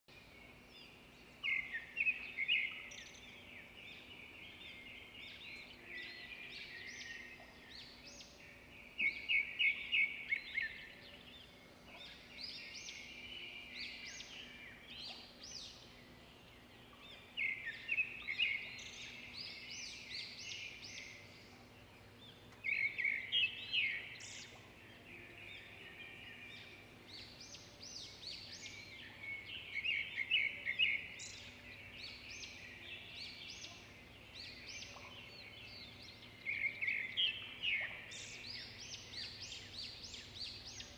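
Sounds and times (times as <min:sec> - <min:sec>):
faint steady hum: 0:00.1 - 0:40.9
bird chirping and twittering: 0:00.2 - 0:40.9.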